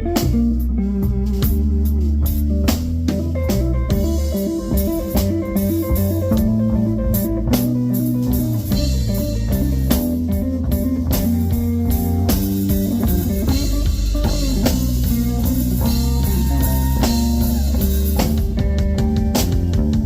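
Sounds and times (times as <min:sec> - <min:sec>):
bass guitar: 0:00.0 - 0:20.0
blues guitar: 0:00.0 - 0:20.0
drum kit steady beat: 0:00.0 - 0:20.0.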